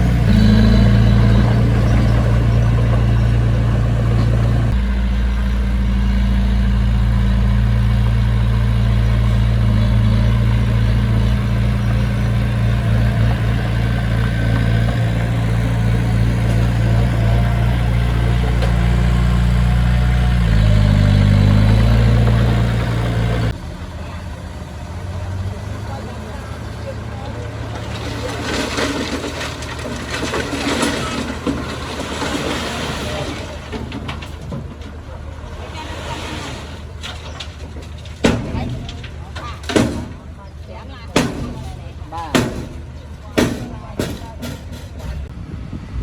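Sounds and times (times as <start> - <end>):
heavy diesel engine running: 0.0 - 46.0.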